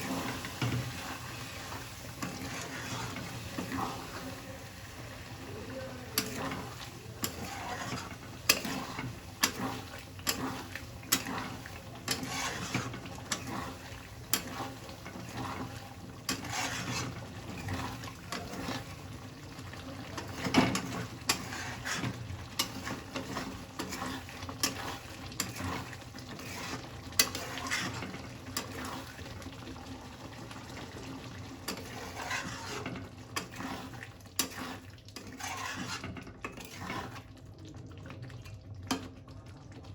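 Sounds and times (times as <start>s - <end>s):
metal spoon stirring in a pot: 0.0s - 4.8s, 6.0s - 29.3s, 31.6s - 37.3s.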